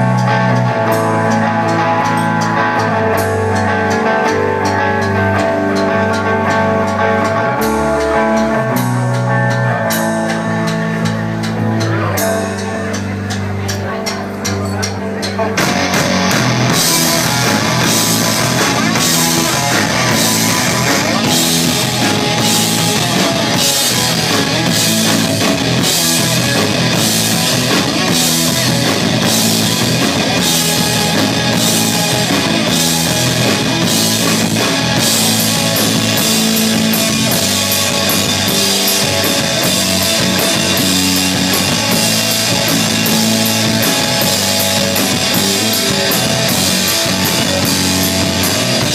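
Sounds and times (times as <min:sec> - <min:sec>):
bass guitar: 0:00.0 - 0:48.9
drum kit with cymbals: 0:00.0 - 0:48.9
electric guitar: 0:00.0 - 0:48.9.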